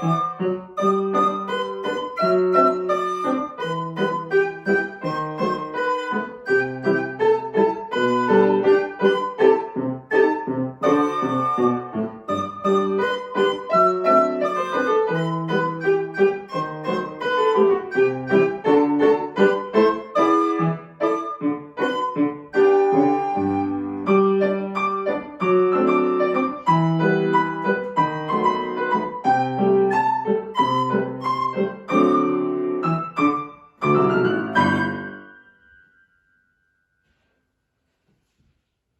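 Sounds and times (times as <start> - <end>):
solo piano quick notes: 0.0 - 36.0.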